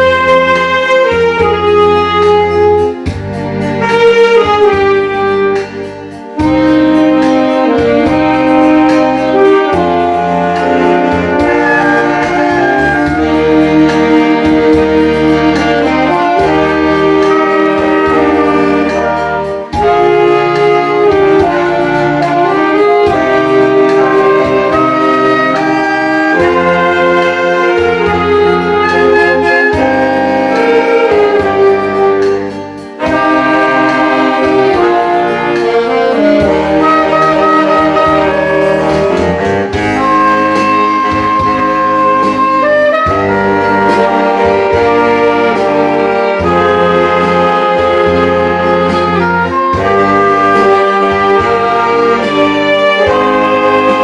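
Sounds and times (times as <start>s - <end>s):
backing track with steady bass: 0.0s - 54.0s
saxophone ensemble playing melody: 0.0s - 54.0s.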